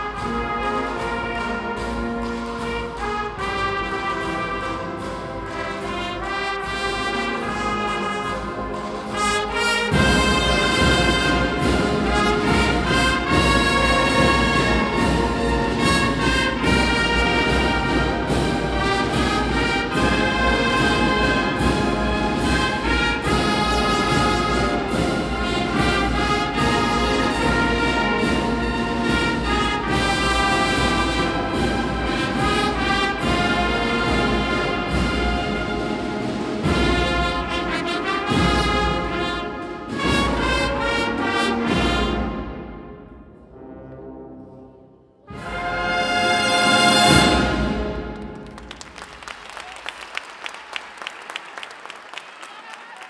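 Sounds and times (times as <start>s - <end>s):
brass band playing a march: 0.0s - 48.8s.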